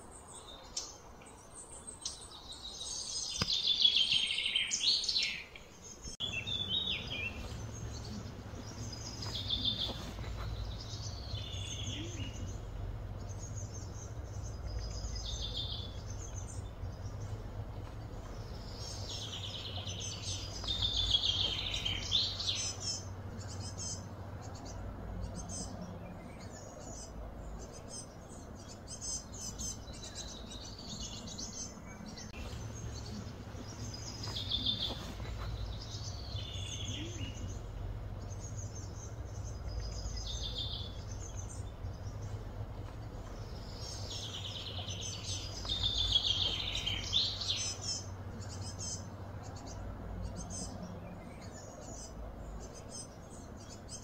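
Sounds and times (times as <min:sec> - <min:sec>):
birds chirping: 0:00.0 - 0:54.0
low hum: 0:05.6 - 0:53.8.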